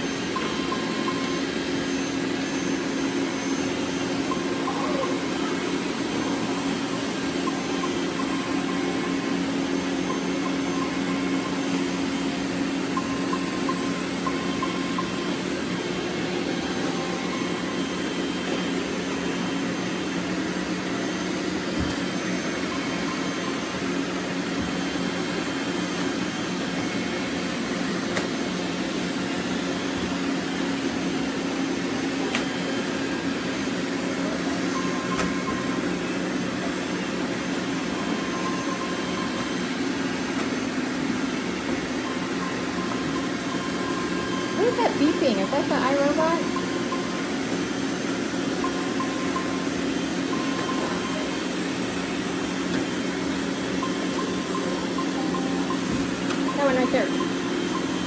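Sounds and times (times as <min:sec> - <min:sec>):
robot vacuum cleaners whirring: 0:00.0 - 0:58.0.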